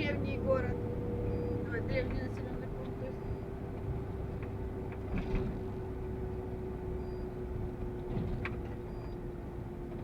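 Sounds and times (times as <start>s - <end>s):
constant hum: 0.0s - 10.0s
van engine and road rumble: 0.0s - 10.0s.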